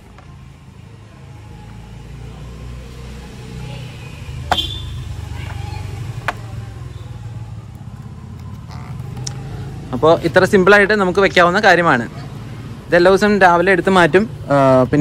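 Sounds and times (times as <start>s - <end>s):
motor vehicle engine rumble: 0.0s - 15.0s.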